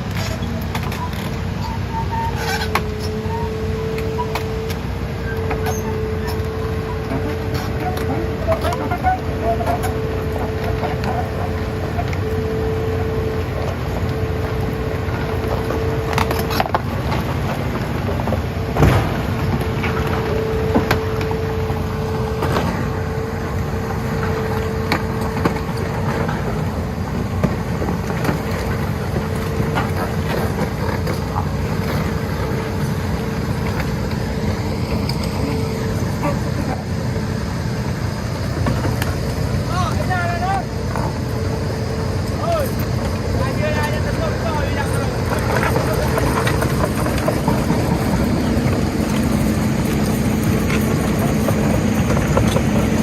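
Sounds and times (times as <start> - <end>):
excavator running: 0.0 - 53.0
hydraulic whine: 0.0 - 53.0.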